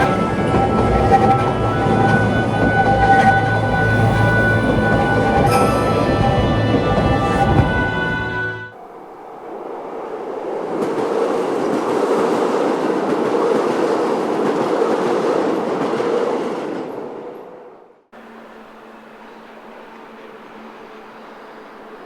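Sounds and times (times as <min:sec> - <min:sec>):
train wheels running on rails: 0:00.0 - 0:17.6, 0:18.2 - 0:22.0.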